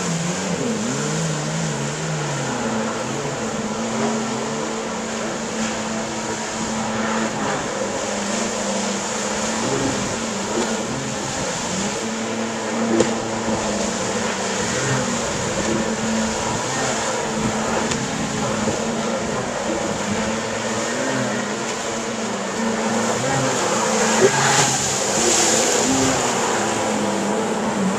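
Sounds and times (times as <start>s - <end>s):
jet ski engines: 0.0s - 27.9s.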